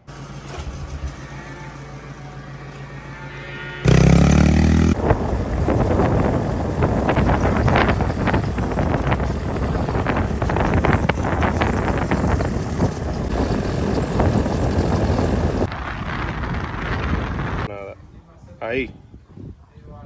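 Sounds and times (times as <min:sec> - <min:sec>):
wind buffeting microphone: 0:03.9 - 0:20.0.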